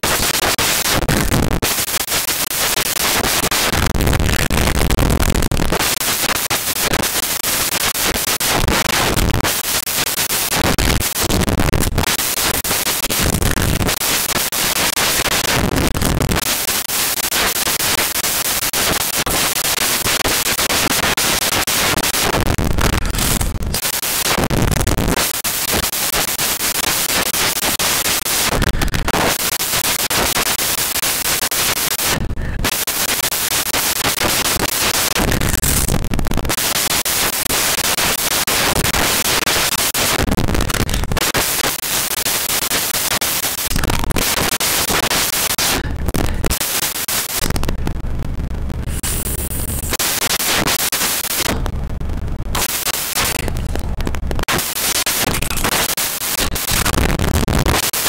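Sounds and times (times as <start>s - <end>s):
loud static-like hiss: 0.0s - 58.0s.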